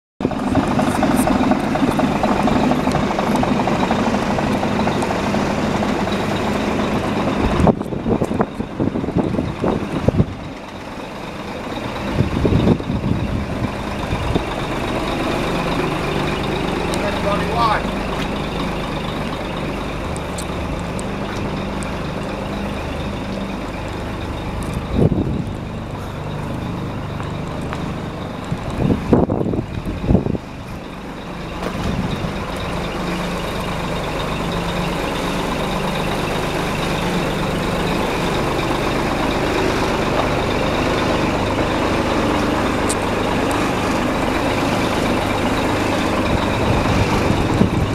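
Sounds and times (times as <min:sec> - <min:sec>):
diesel truck engine idling: 0:00.2 - 0:47.9.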